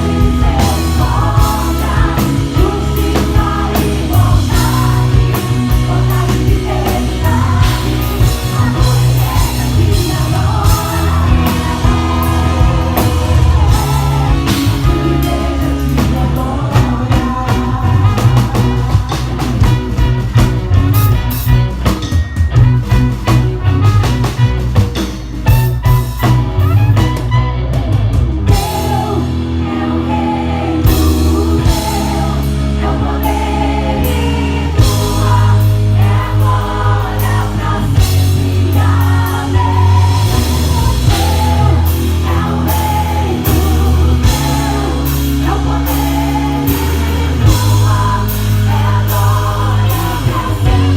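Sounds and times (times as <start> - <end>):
person singing: 0.0 - 19.9, 28.5 - 50.9
bass: 0.0 - 50.9
drum kit: 0.0 - 50.9
gospel band playing: 0.0 - 50.9.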